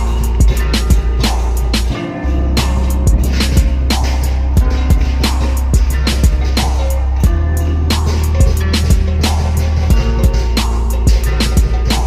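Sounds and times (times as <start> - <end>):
big drum rumbling: 0.0 - 12.0
cymbals crashing: 0.0 - 12.0.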